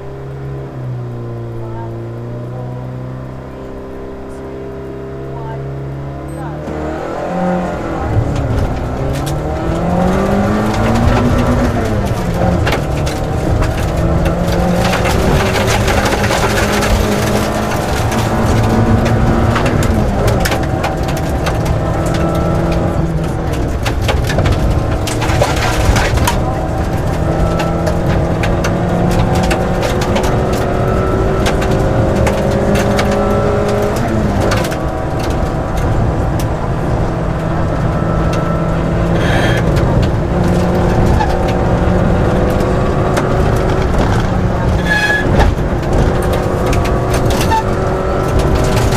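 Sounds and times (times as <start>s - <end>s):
rally car engine accelerating: 0.0s - 48.9s.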